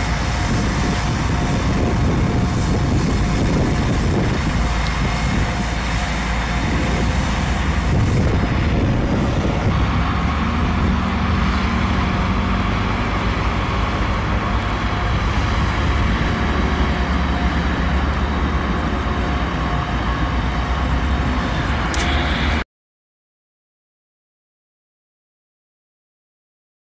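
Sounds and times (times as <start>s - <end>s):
truck engines rumbling: 0.0s - 22.6s.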